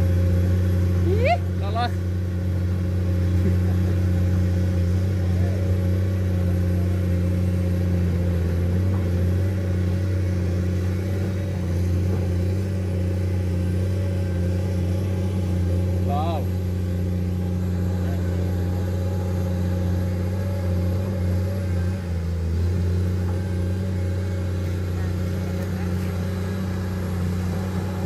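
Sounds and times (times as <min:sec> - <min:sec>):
excavator diesel engine droning: 0:00.0 - 0:28.0.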